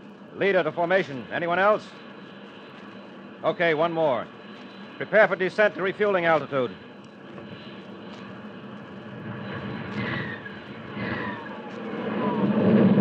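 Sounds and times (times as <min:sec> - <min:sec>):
jet roar: 0:00.0 - 0:13.0
jet whines falling in pitch: 0:00.4 - 0:13.0.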